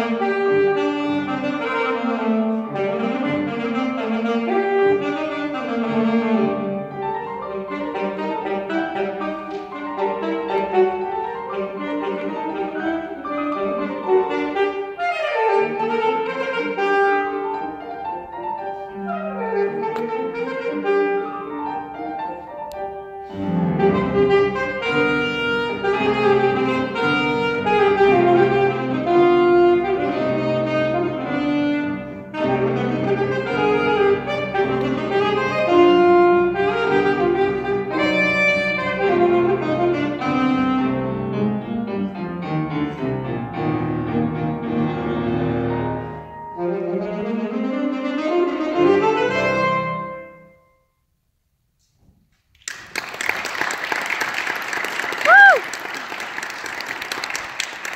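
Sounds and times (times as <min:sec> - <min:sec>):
piano accompaniment: 0:00.0 - 0:50.8
alto saxophone melody: 0:00.0 - 0:50.9.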